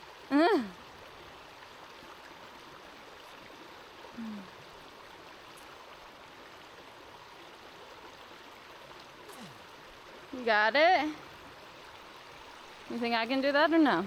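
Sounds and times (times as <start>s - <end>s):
creek water flowing: 0.0s - 14.0s.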